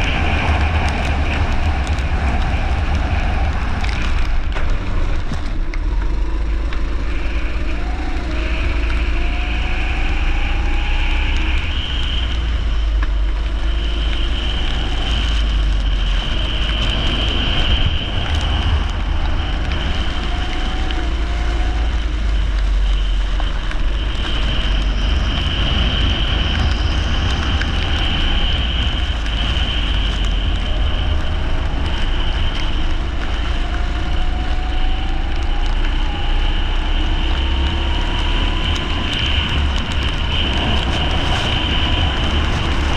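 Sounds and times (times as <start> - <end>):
heavy low rumble: 0.0 - 42.9
kart engine accelerating: 0.0 - 42.9.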